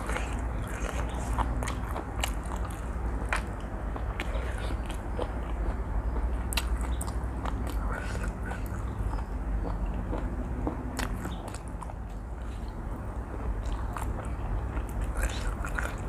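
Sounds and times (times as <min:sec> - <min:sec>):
chewing noodles: 0:00.0 - 0:16.0
low steady hum: 0:00.0 - 0:16.0.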